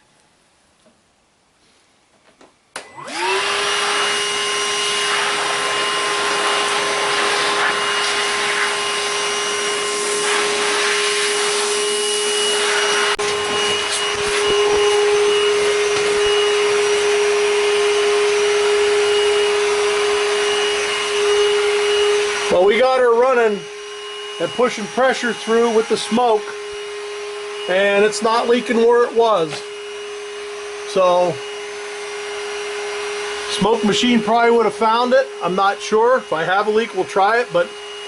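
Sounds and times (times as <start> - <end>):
shop vacuum motor whine: 2.7 - 38.0.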